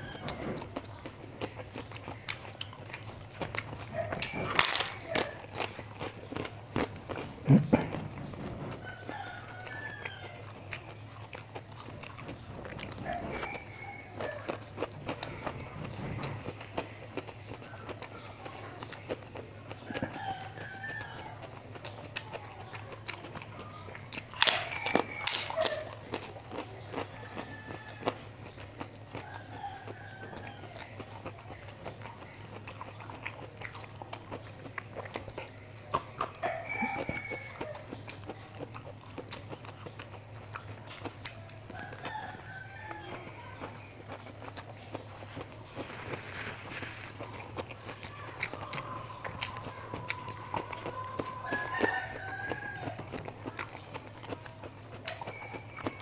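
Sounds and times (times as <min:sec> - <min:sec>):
chicken calls: 0:00.0 - 0:33.1, 0:34.4 - 0:56.0
crunchy bite: 0:00.0 - 0:56.0
rice being chewed: 0:00.0 - 0:56.0
steady low hum: 0:00.0 - 0:56.0.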